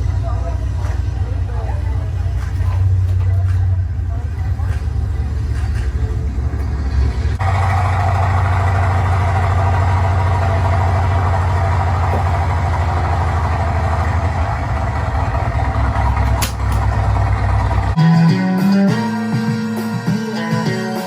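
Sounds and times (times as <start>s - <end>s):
piston aircraft engine running: 0.0s - 20.1s.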